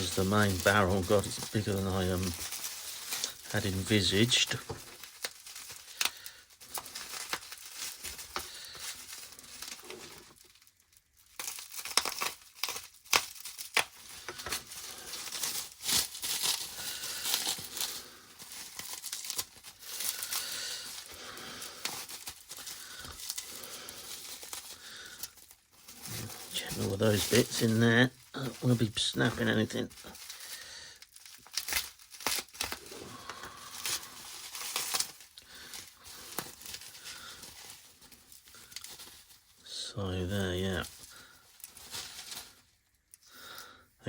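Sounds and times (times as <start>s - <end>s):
plastic packaging crinkling: 0.0s - 43.8s.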